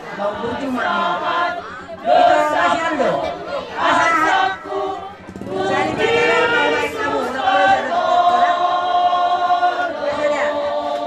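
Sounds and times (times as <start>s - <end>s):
women singing unaccompanied: 0.0s - 11.0s.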